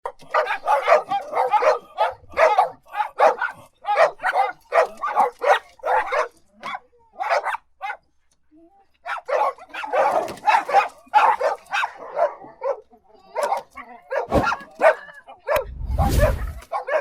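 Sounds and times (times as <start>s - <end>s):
dog barking: 0.0s - 8.0s, 9.0s - 17.0s.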